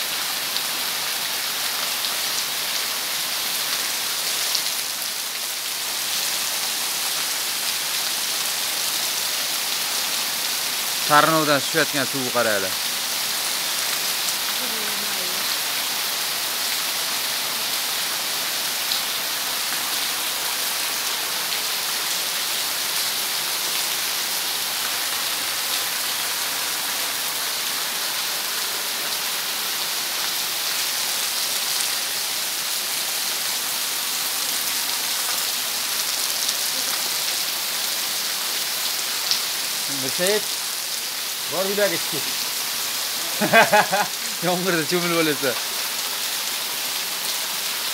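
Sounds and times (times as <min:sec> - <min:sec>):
heavy rain on pavement and foliage: 0:00.0 - 0:47.9.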